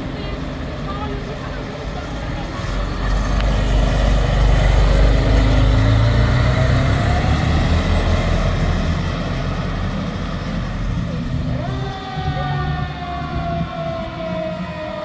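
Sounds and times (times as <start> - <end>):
fire engine diesel rumble: 0.0 - 15.0.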